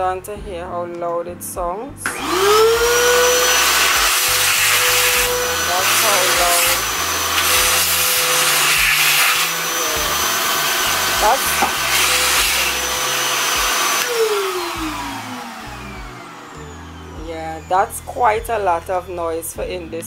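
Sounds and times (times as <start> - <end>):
shop vacuum whirring: 2.0 - 19.4.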